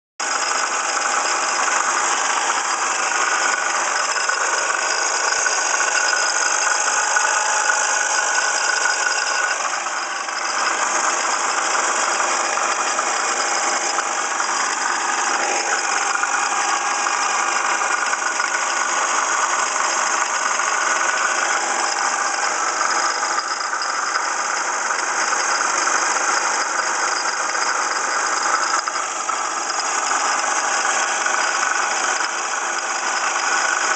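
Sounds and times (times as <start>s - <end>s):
car engine running: 0.2s - 33.9s
engine rattle: 0.2s - 33.9s.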